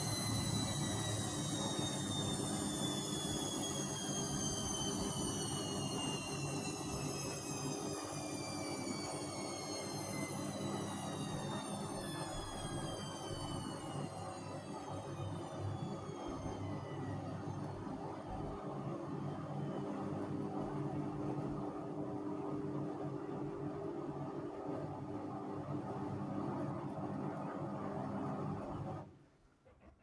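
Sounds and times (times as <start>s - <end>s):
washing machine spin whine: 0.0s - 30.0s.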